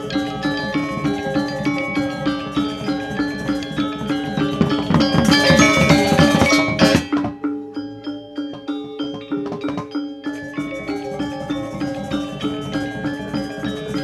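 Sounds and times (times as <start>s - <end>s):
gamelan metallophones and drums: 0.0s - 14.0s.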